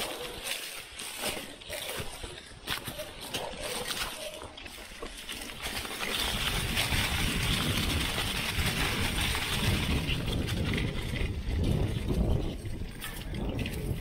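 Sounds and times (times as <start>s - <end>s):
bike tyres rolling and rattling: 0.0s - 14.0s
wind rumbling on microphone: 0.0s - 14.0s.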